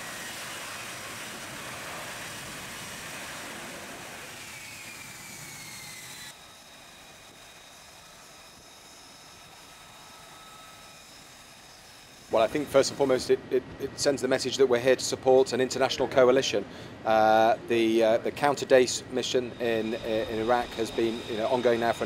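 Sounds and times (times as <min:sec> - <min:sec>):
jet engine whine: 0:00.0 - 0:22.0.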